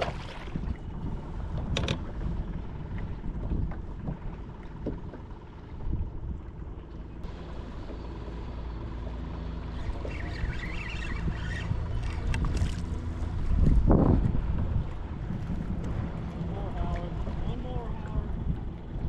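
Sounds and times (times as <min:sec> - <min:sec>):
wind on microphone: 0:00.0 - 0:07.3, 0:09.8 - 0:19.0
low steady hum: 0:00.0 - 0:19.0
water sloshing against hull: 0:00.0 - 0:19.0.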